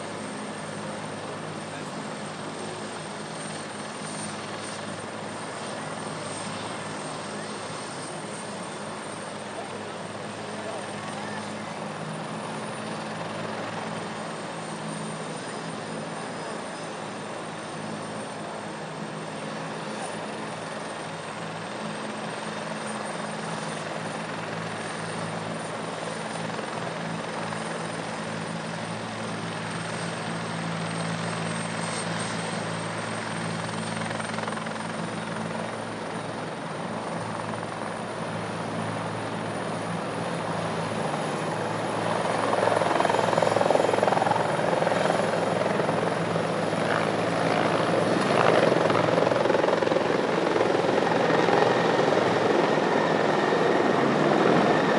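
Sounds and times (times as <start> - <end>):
helicopter rotor and engine drone: 0.0 - 54.9.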